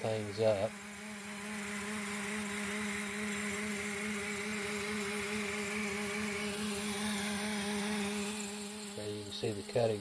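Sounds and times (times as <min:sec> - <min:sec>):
air drill running: 0:00.0 - 0:10.0.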